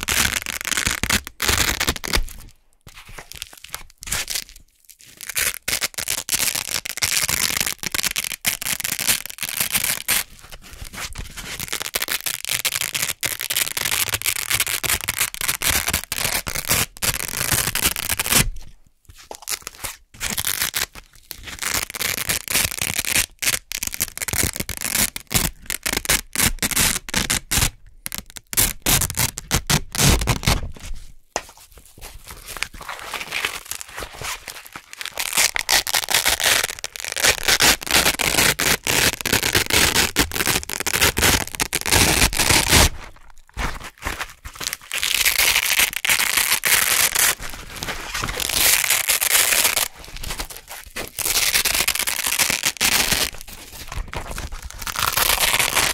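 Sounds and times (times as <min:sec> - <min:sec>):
velcro tearing: 0:00.0 - 0:02.4, 0:05.1 - 0:18.5, 0:19.3 - 0:30.7, 0:32.8 - 0:55.9.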